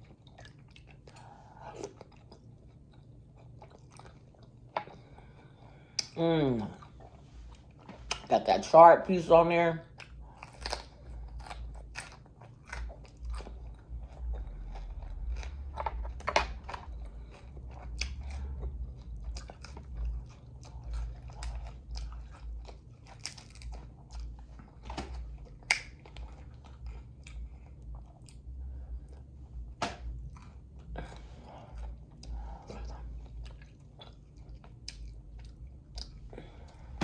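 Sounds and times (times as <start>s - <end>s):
person chewing food: 0.0s - 8.3s, 9.8s - 37.0s.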